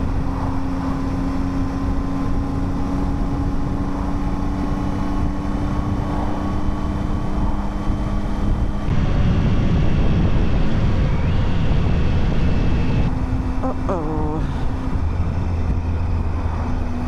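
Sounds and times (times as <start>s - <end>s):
motorcycle engine cruising: 0.0s - 8.9s, 12.1s - 17.0s
wind and road noise: 0.0s - 17.0s.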